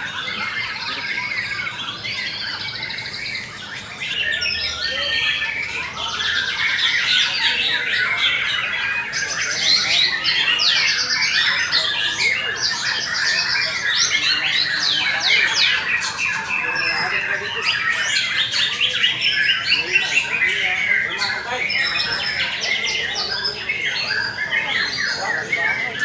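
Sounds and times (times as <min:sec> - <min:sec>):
chorus of songbirds singing: 0:00.0 - 0:26.0.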